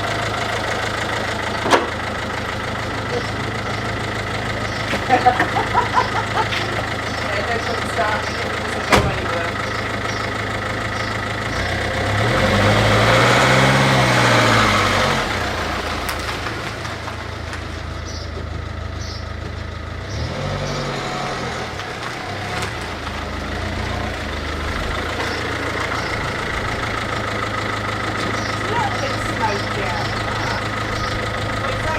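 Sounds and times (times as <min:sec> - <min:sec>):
diesel engine idling and revving: 0:00.0 - 0:31.9.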